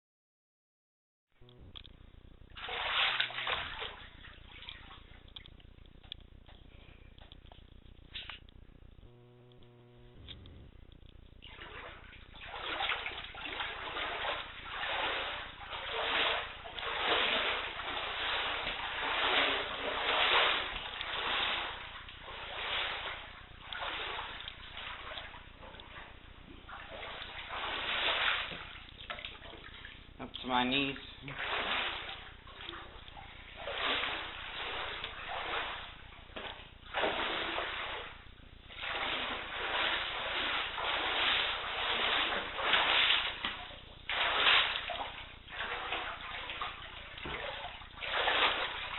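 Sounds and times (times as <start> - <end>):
water sloshing from wading: 2.5 - 6.2, 9.1 - 48.9.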